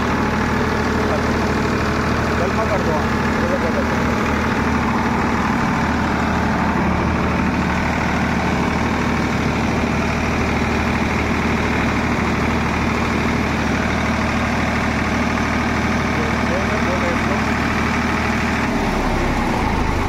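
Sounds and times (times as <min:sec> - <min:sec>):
tractor diesel engine idling fast: 0:00.0 - 0:20.0.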